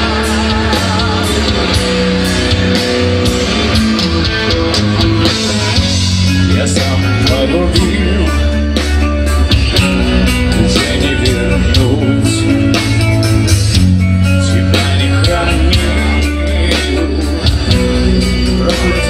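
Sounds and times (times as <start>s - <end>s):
metal band playing loudly: 0.0s - 19.0s.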